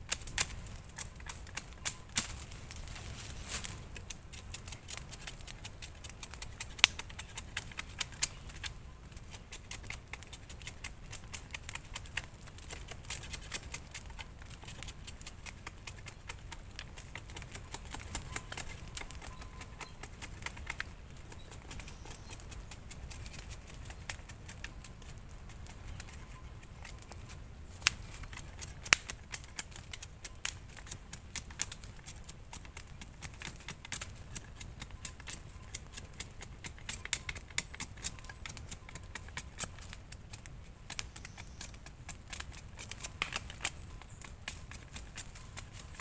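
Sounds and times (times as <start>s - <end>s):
knife shaving wooden stick: 0.0s - 46.0s.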